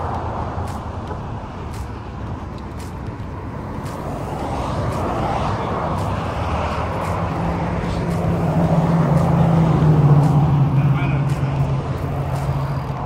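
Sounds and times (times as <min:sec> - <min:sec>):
vehicle engine passing slowly: 0:00.0 - 0:13.0.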